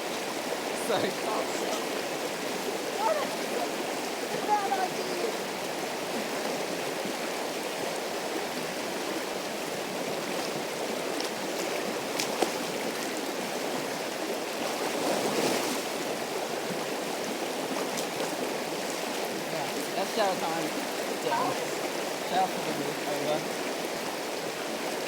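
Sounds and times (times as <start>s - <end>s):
river water running: 0.0s - 25.0s.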